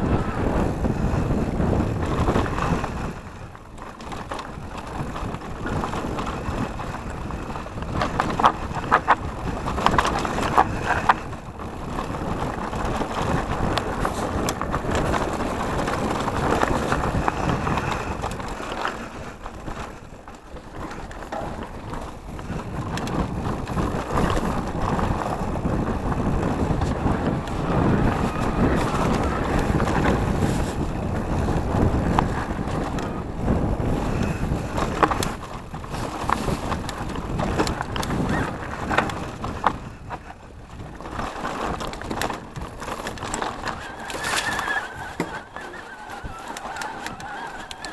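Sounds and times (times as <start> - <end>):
bike rattle and tyre noise: 0.0 - 47.9
wind buffeting microphone: 0.0 - 47.9
bike knocking on bumps: 0.5 - 45.4.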